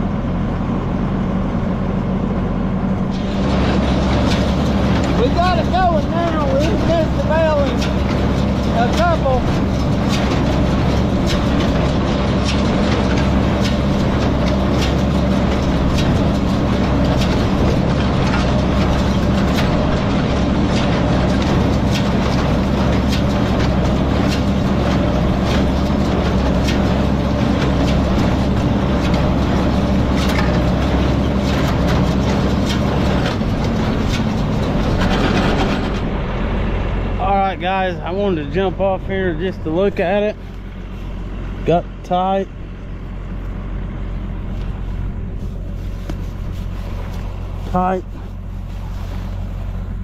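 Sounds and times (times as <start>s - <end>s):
hay baler clacking: 0.0s - 50.0s
tractor engine running: 0.0s - 50.0s.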